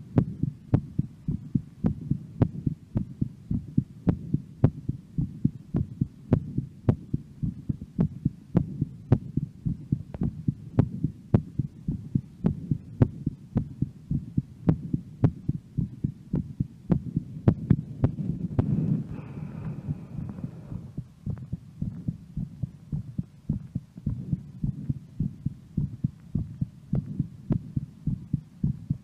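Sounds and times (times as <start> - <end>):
fast heartbeat: 0.2 - 29.0.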